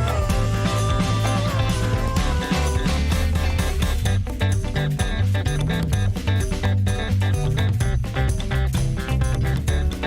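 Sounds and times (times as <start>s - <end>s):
swing jazz background music: 0.0s - 10.0s.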